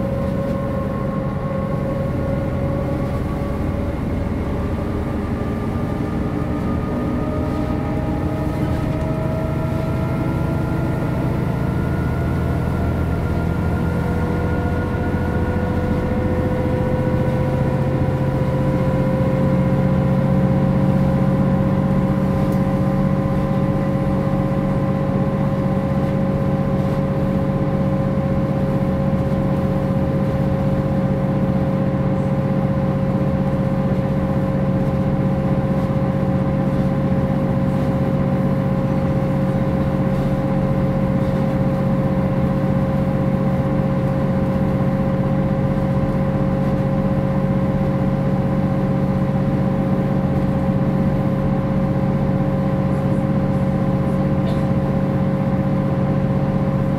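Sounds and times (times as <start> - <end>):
diesel bus engine running: 0.0 - 56.9
high engine whine: 0.0 - 56.9.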